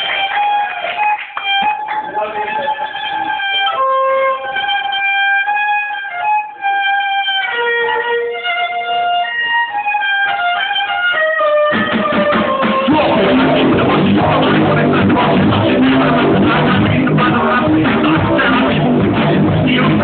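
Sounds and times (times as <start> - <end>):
band with bass and guitar: 0.0 - 20.0
violin melody: 0.0 - 20.0.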